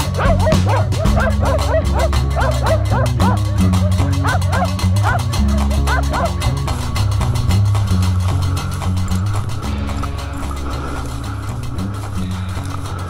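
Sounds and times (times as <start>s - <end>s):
background music with beat and bass: 0.0s - 13.0s
dogs barking rapidly: 0.0s - 13.0s.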